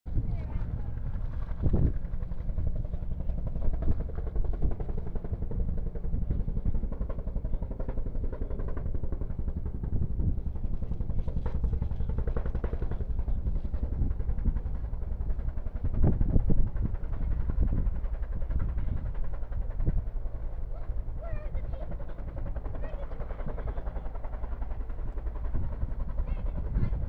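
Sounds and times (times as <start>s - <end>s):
helicopter rotor beating: 0.1s - 27.0s.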